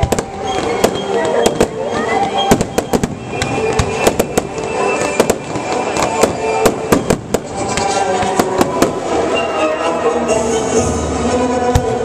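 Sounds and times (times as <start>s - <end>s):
fireworks bursting: 0.0s - 9.8s.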